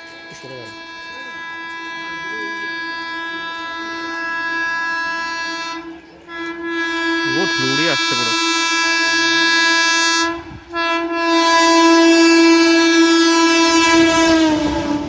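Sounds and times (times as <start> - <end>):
train horn blasts: 0.0 - 15.0
train wheels rumbling: 0.0 - 15.0.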